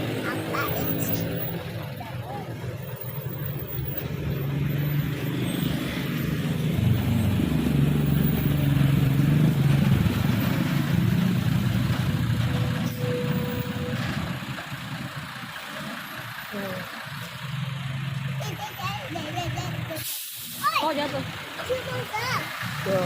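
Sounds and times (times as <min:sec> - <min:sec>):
heavy vehicle driving past: 0:00.0 - 0:18.5.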